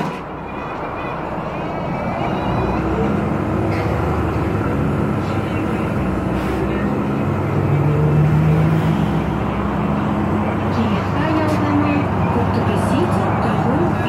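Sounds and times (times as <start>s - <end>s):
car engine hum: 0.0s - 14.0s
road noise inside car: 0.0s - 14.0s.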